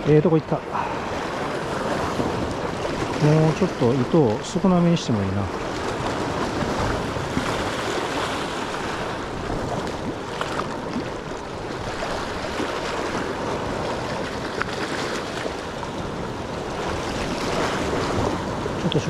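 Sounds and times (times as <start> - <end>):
surf washing against rocks: 0.0 - 19.0
wind: 0.0 - 19.0.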